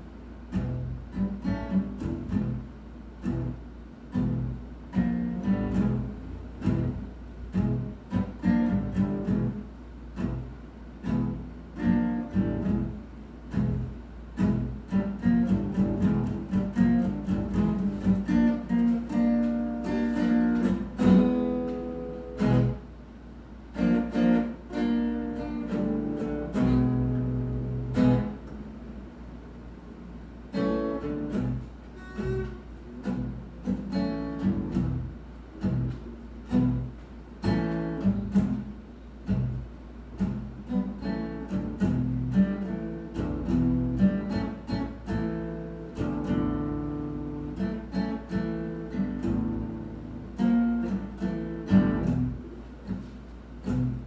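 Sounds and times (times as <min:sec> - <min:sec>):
guitar picking and strumming: 0:00.0 - 0:54.0.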